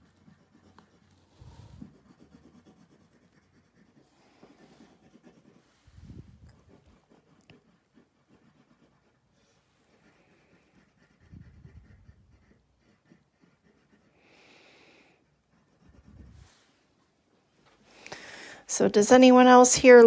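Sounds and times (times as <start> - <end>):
pencil scratching on paper: 0.0 - 16.8.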